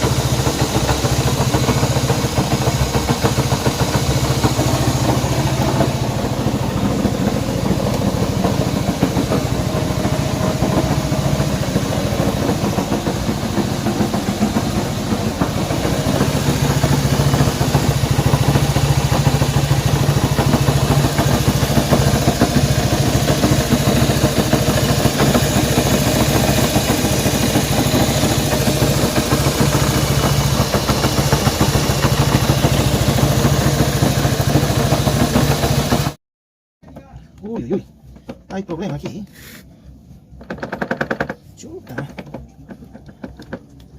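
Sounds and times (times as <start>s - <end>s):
motorcycle engine idling: 0.0s - 36.2s, 39.8s - 43.9s.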